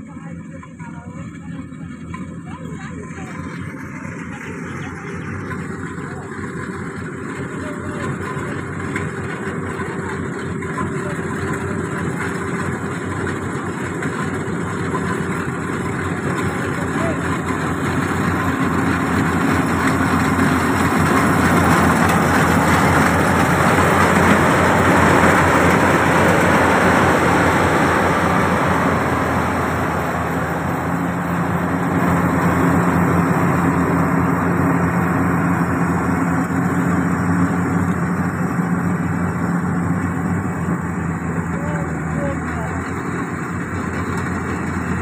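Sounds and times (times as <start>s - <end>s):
diesel engine running: 0.0s - 45.0s
harvester machinery rushing: 1.2s - 45.0s.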